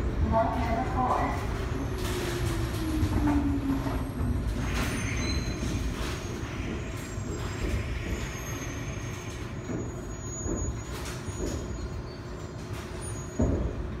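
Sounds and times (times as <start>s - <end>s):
train wheels rumbling under braking: 1.5s - 14.0s.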